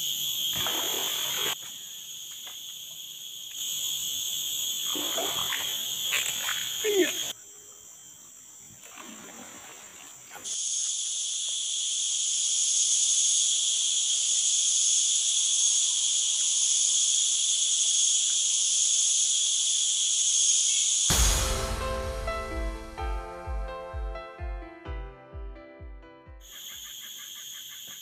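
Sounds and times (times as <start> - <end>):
forest insects droning: 0.0 - 21.7, 26.4 - 28.0.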